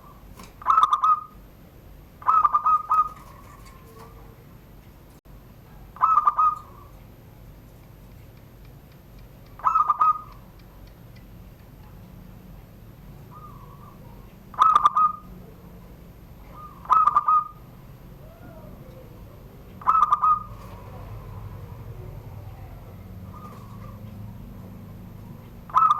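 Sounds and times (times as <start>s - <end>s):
dove cooing: 0.0s - 7.9s, 9.3s - 10.9s, 12.7s - 25.9s.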